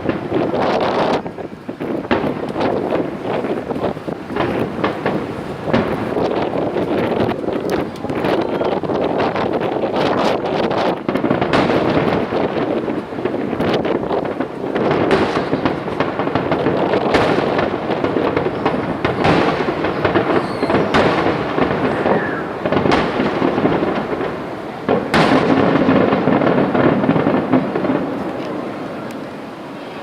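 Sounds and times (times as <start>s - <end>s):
firework shells booming: 0.0s - 30.0s
fireworks crackle and rumble: 0.0s - 30.0s.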